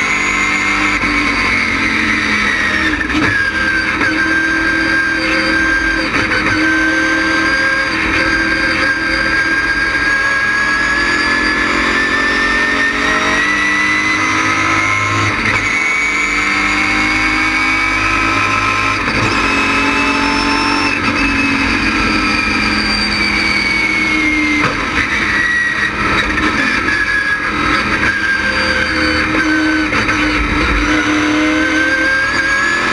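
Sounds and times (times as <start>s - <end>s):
race car engine running hard: 0.0s - 32.9s.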